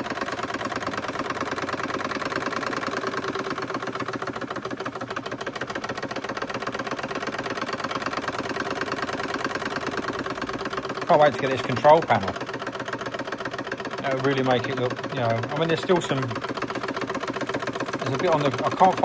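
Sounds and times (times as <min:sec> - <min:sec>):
model steam engine running: 0:00.0 - 0:19.0.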